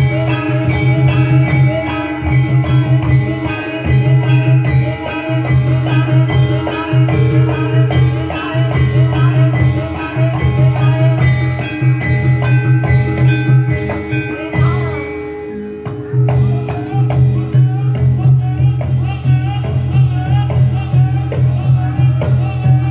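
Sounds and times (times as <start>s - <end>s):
drums playing rhythmic pattern: 0.0s - 22.9s
metal-keyed mallet percussion: 0.0s - 22.9s.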